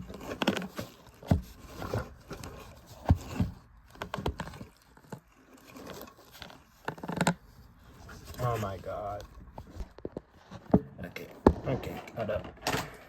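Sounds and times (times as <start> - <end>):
rustling of handled objects: 0.0 - 13.0.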